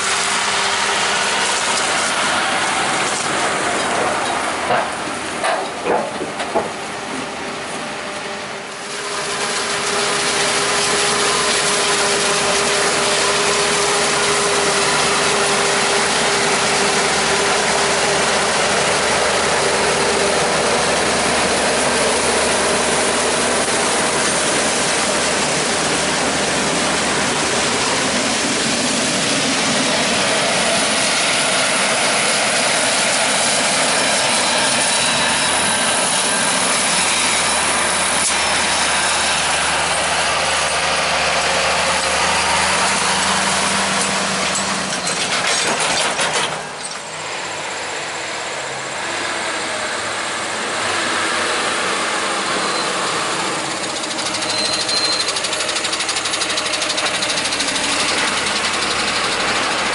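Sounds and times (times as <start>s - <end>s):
tractors pulling wagons: 0.0s - 59.9s.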